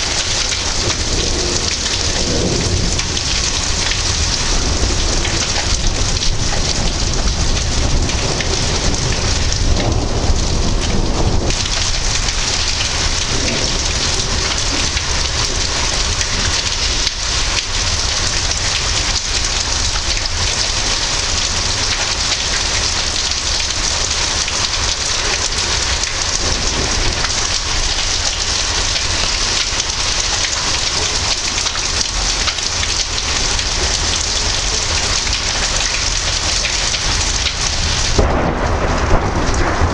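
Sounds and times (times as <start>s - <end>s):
heavy rain pouring: 0.0s - 39.9s
thunder rumble: 0.0s - 39.9s.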